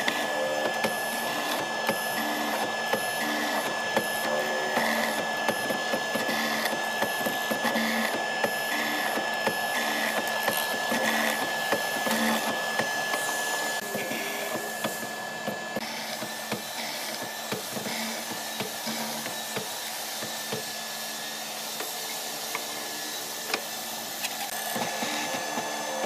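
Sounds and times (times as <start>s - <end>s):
mortiser motor whining: 0.0s - 26.0s.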